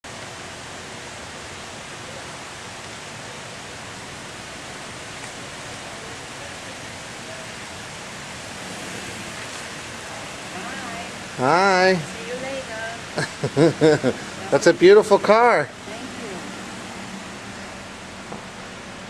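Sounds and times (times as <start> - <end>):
steady background hiss: 0.1 - 19.0.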